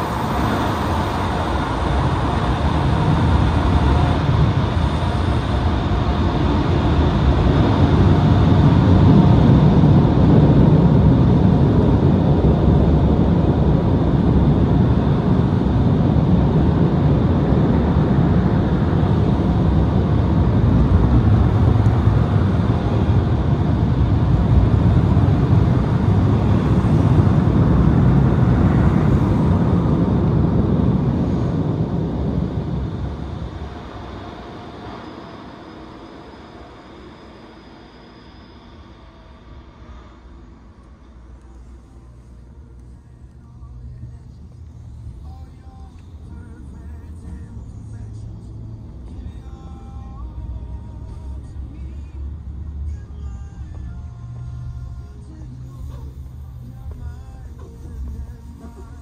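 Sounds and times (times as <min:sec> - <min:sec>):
car wash machinery rushing: 0:00.0 - 0:59.0.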